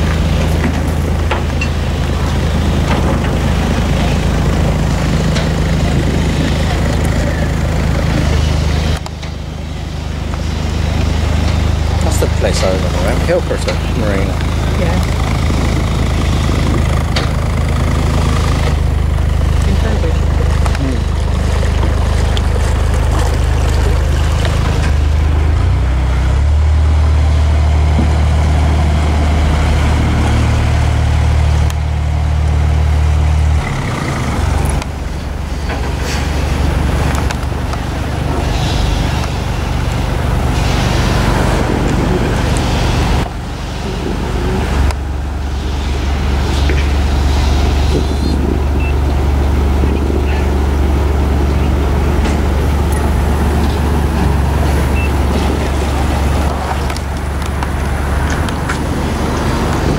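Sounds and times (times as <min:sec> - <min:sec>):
diesel boat engine throbbing: 0:00.0 - 0:59.9.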